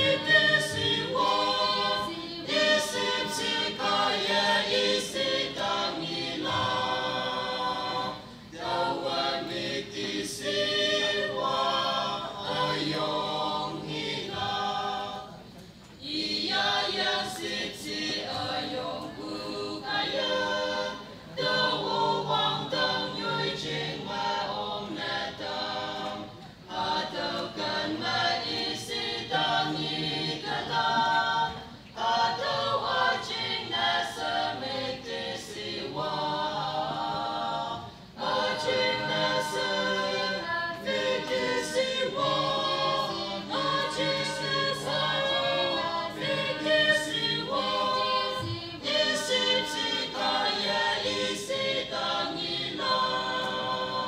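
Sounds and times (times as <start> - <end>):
mixed choir singing a cappella: 0.0 - 54.0.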